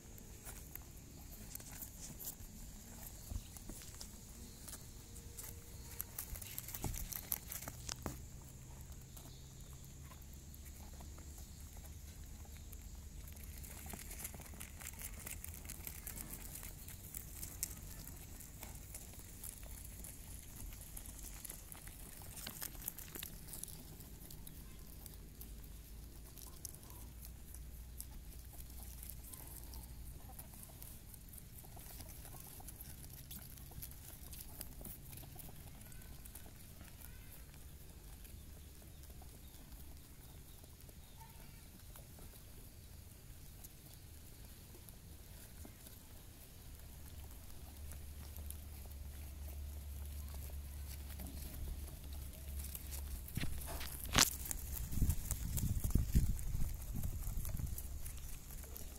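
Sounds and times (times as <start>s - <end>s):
rabbit kits scrabbling: 0.0s - 58.9s.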